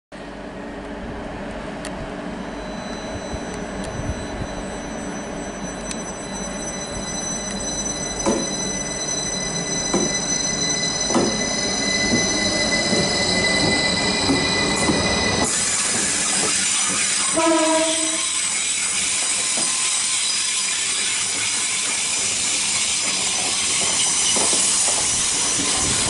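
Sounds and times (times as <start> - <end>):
electric train arriving: 0.2 - 26.0
high squealing tones: 2.6 - 26.0.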